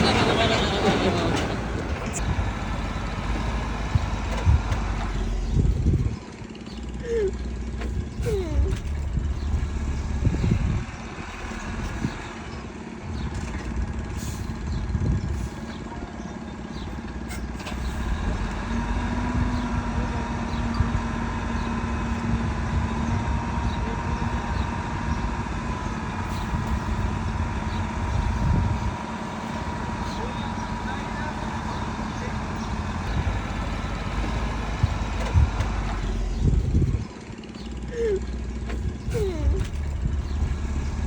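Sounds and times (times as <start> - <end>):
diesel machinery rumbling: 0.0 - 41.0.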